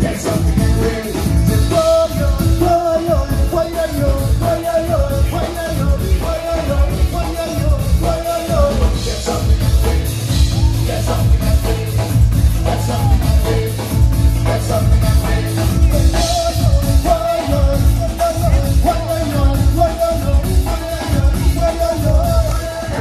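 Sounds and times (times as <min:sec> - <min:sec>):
live rock band: 0:00.0 - 0:23.0
person singing: 0:00.0 - 0:23.0.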